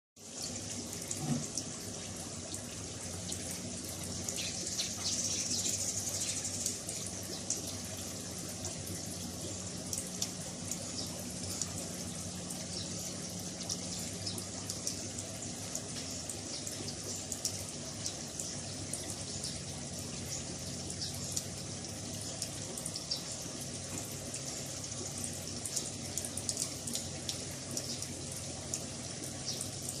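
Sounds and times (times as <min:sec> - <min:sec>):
pump humming: 0:00.2 - 0:30.0
water dripping: 0:00.2 - 0:30.0
water running and splashing: 0:00.2 - 0:30.0.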